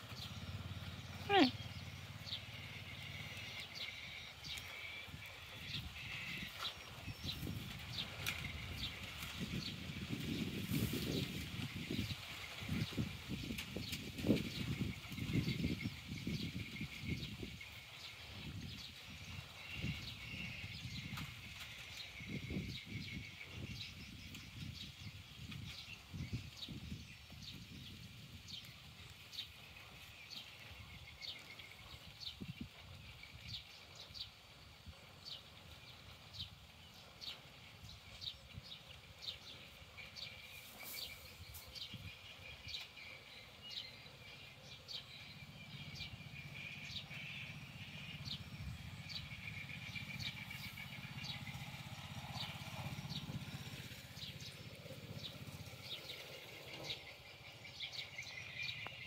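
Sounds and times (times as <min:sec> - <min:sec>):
small bird chirping: 0:00.0 - 0:28.0, 0:35.4 - 0:59.0.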